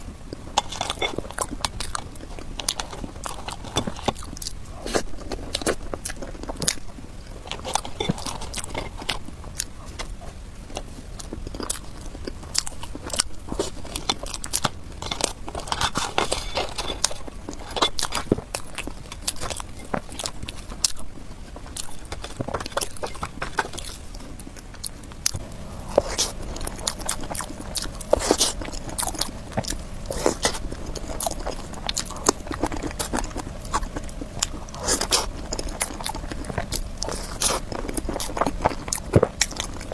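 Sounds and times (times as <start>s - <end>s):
chewing soft cake: 0.0s - 39.9s.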